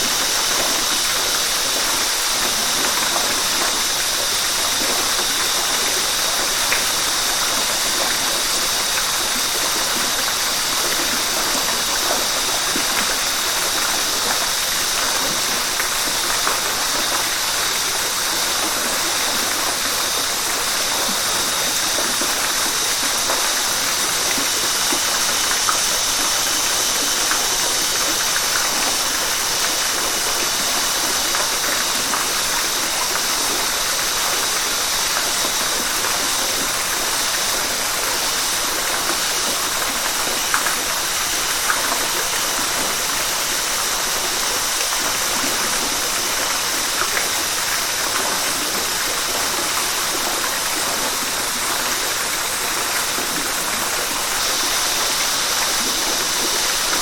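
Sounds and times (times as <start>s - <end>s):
rushing river water: 0.0s - 57.0s.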